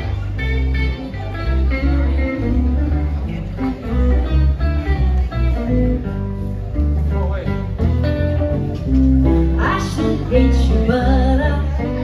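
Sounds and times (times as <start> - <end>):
bass line: 0.0 - 12.0
picked guitar notes: 0.0 - 12.0.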